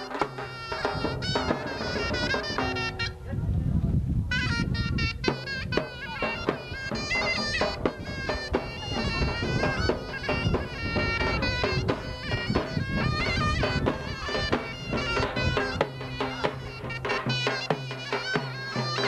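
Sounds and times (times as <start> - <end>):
drum beats: 0.0 - 3.3, 4.3 - 19.0
reed pipe melody: 0.0 - 3.5, 4.3 - 19.0.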